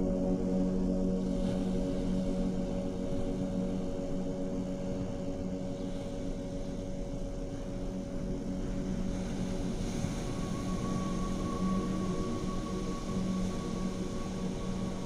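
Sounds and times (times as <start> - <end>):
ambient music drone: 0.0 - 15.0.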